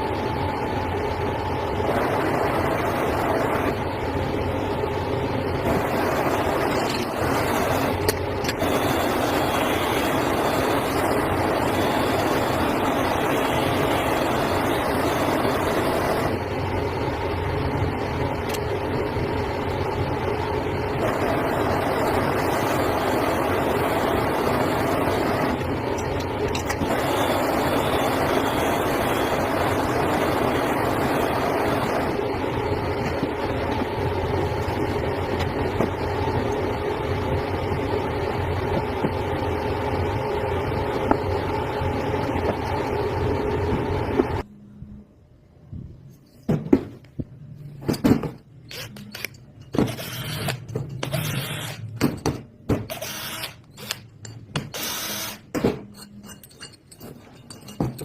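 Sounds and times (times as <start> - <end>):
workshop machinery running: 0.0 - 44.6, 46.4 - 58.0.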